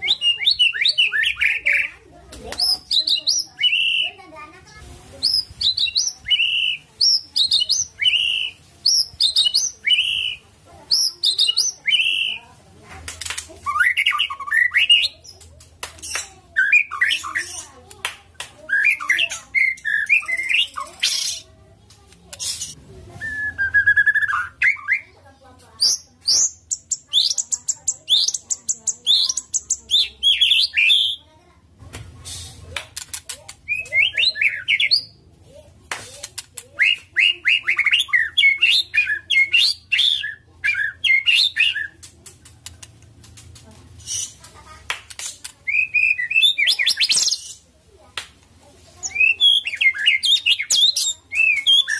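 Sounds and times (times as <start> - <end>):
bird singing varied song: 0.0 - 4.2, 5.1 - 12.5, 13.2 - 17.8, 18.6 - 31.3, 32.4 - 35.2, 36.2 - 47.6, 49.0 - 51.9.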